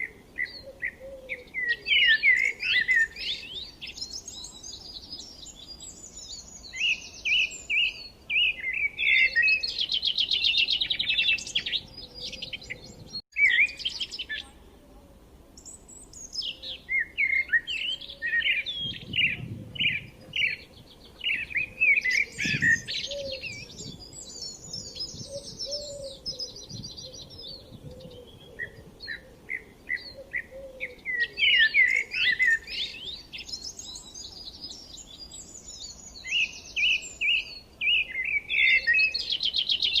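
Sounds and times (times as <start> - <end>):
birds chirping and trilling: 0.0 - 14.6, 15.6 - 40.0.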